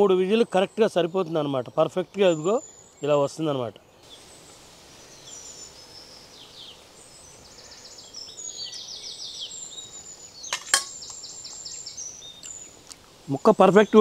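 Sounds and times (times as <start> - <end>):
birds chirping: 0.0 - 14.0
faint outdoor hiss: 0.0 - 14.0.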